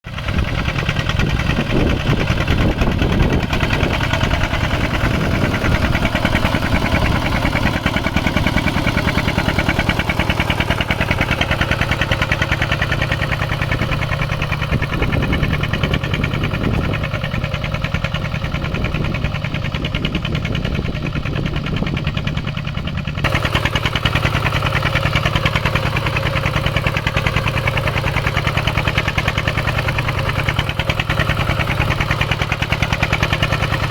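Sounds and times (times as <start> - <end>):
tractor engine knocking: 0.0 - 33.9.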